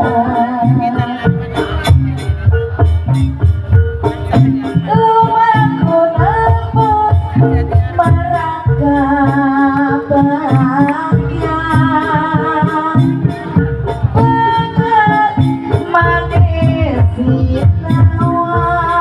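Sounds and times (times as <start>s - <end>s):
steady drumming: 0.0s - 19.0s.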